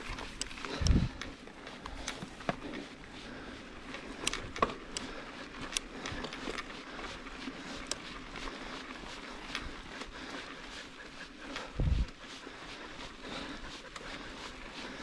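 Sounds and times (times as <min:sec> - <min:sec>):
bike clicking and rattling: 0:00.0 - 0:15.0
bike tyres rolling on rough ground: 0:00.0 - 0:15.0.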